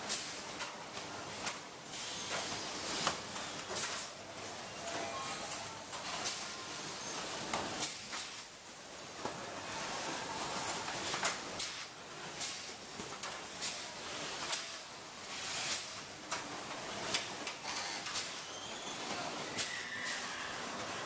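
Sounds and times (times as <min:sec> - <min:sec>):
spot welding snaps and hisses: 0:00.0 - 0:04.5, 0:05.5 - 0:09.6, 0:10.4 - 0:21.0
high factory hiss: 0:00.0 - 0:21.0.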